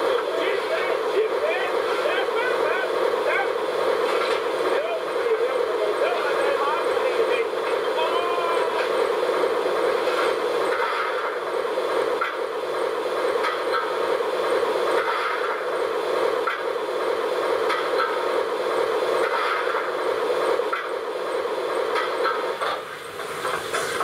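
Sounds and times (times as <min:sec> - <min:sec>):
steam locomotive rushing noise: 0:00.0 - 0:24.0.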